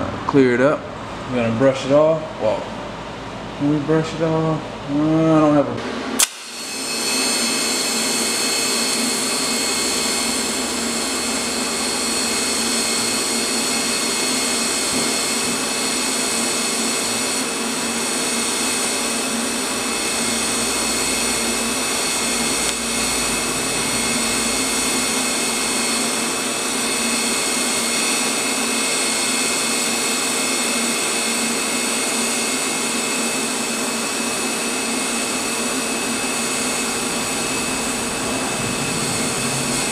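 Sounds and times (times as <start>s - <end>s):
thin high whine: 6.2s - 39.9s
welding arc hissing: 6.2s - 39.9s.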